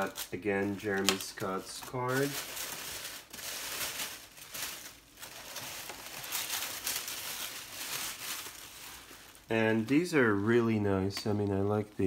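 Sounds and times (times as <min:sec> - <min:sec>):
tissue paper rustling: 0:00.0 - 0:10.6.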